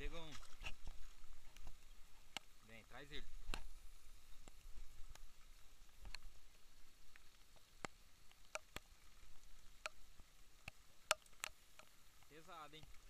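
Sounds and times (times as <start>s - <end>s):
faint hiss: 0.0s - 13.0s
raindrops ticking: 0.0s - 13.0s.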